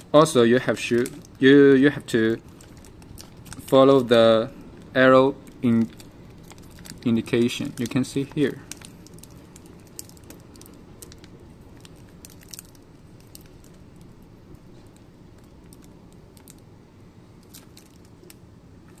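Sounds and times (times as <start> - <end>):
low room hum: 0.0 - 19.0
plastic bag crinkling: 0.4 - 16.7, 17.4 - 19.0.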